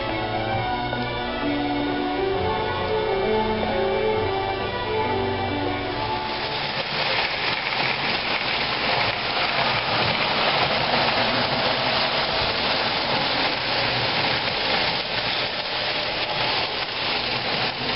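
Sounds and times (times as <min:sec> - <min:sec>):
model trains running on track: 0:00.0 - 0:17.9.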